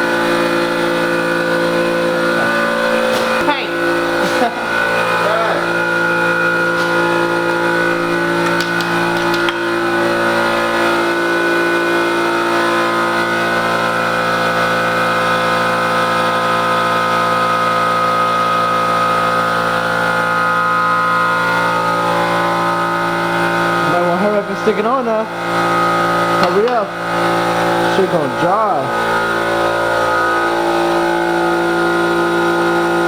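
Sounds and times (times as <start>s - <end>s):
motor running steadily: 0.0s - 33.0s.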